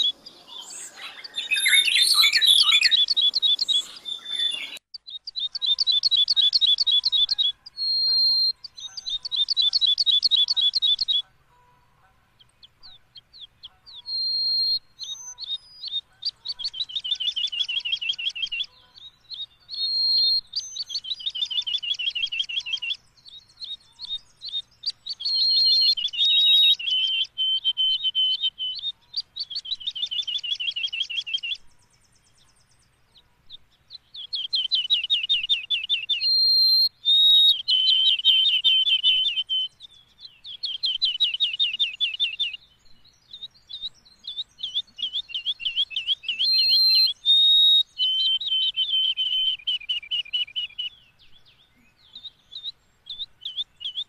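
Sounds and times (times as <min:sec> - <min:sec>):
songbird trilling: 0:00.0 - 0:11.3, 0:12.4 - 0:32.6, 0:33.5 - 0:54.0.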